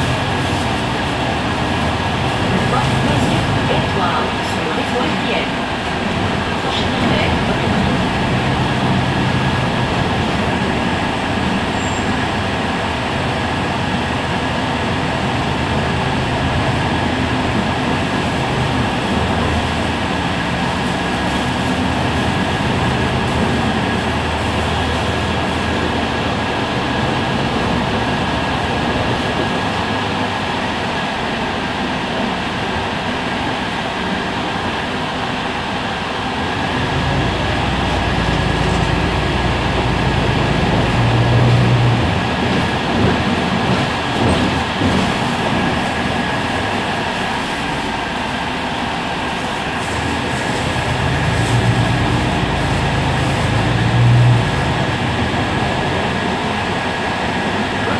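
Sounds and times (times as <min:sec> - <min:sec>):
bus engine drone: 0:00.0 - 0:57.9.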